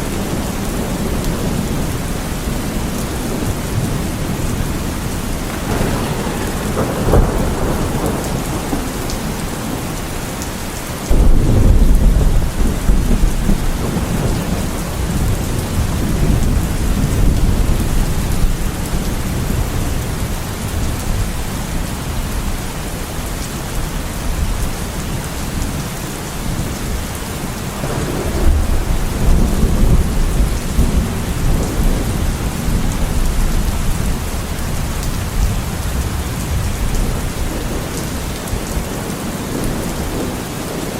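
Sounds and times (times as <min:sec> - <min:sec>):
thunder rumbling: 0:00.0 - 0:22.6, 0:26.4 - 0:40.9
heavy rain falling: 0:00.0 - 0:40.9.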